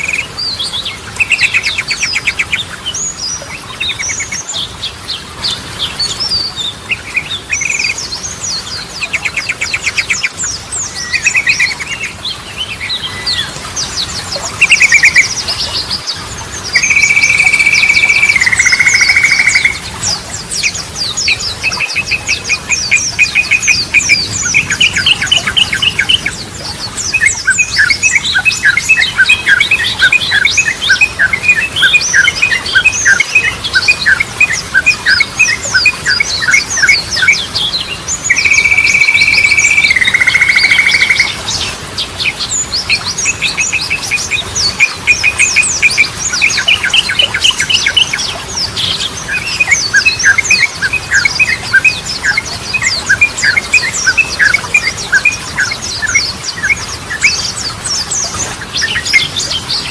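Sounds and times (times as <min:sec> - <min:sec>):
bird singing chattering song: 0:00.0 - 0:04.6, 0:05.4 - 0:59.9.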